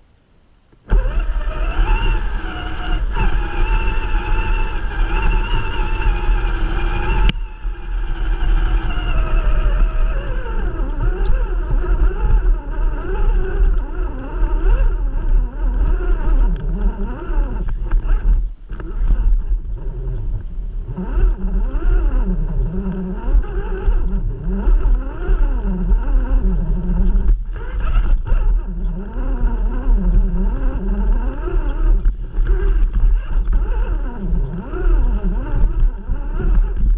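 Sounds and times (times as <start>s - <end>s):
electric motor whining: 0.8s - 36.9s
low rumble: 0.9s - 36.9s.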